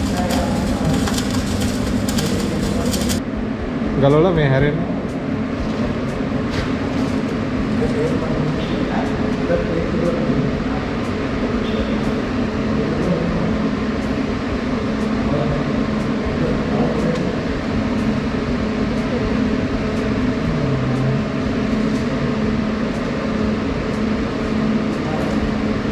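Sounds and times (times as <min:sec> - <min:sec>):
workshop machinery humming: 0:00.0 - 0:25.9.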